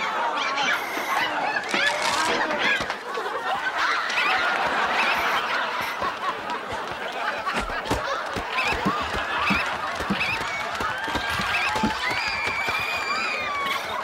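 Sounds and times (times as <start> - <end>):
studio audience laughing and whooping: 0.0 - 14.0.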